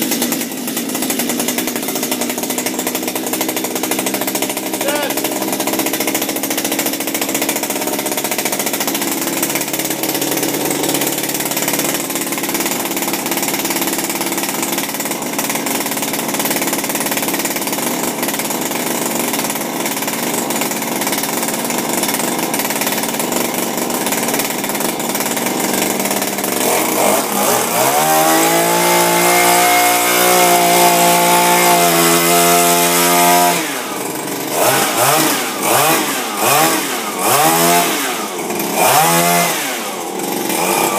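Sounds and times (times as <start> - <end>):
two-stroke engine idling and revving: 0.0 - 40.9.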